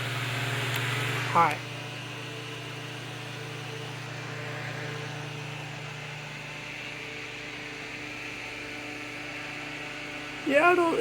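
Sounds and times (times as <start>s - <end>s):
desk fan running: 0.0s - 11.0s.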